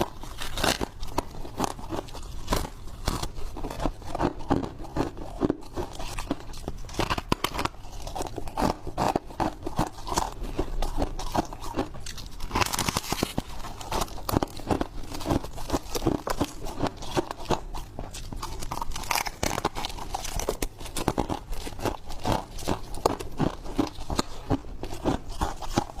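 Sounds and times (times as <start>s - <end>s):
frost crunching when bitten: 0.0s - 26.0s.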